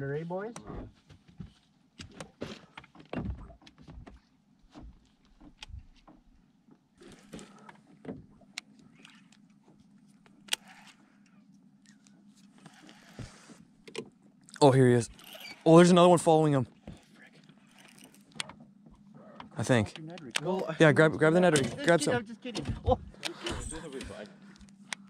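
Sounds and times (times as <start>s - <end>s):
faint steady hum: 4.1s - 25.0s.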